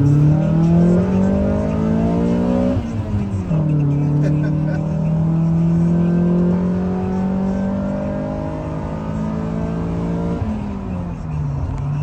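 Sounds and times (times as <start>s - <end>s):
car engine pulling in gear: 0.0s - 12.0s
low road rumble: 0.0s - 12.0s.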